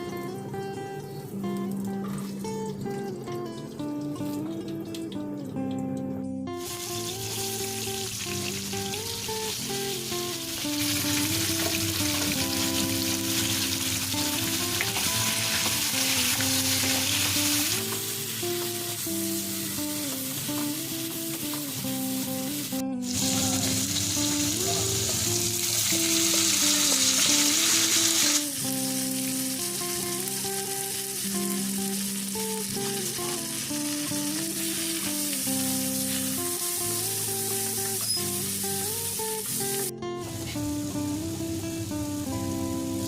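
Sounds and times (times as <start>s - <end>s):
background music: 0.0s - 43.0s
vegetables sizzling in hot oil: 6.6s - 43.0s.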